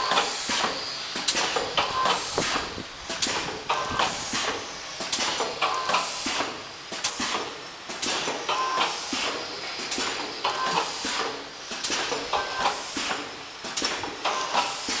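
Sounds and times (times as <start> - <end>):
packing machine air hiss: 0.0 - 15.0
packing machine clacks: 0.0 - 15.0.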